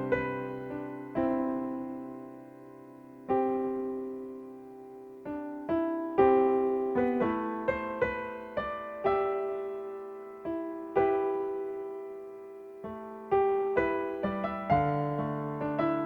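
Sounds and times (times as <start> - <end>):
slow solo piano melody: 0.0 - 16.0.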